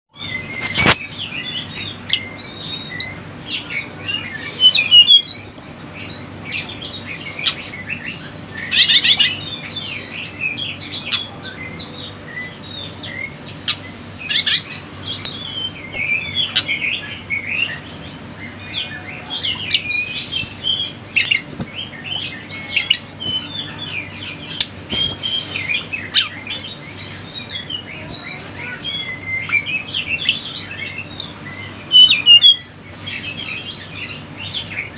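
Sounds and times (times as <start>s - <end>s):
birds chirping and whistling: 0.1s - 34.9s.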